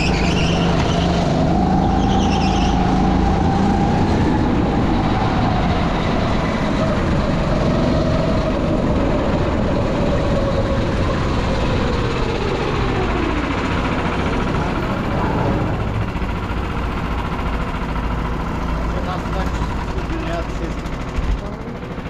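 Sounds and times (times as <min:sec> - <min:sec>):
go-kart engine running: 0:00.0 - 0:22.0
steady rumble: 0:00.0 - 0:22.0.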